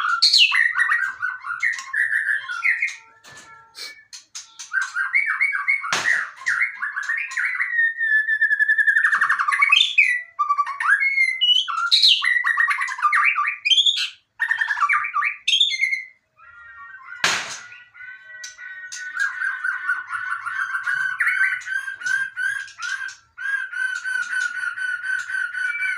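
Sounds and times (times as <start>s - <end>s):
bird singing trills and whistles: 0.0s - 25.9s.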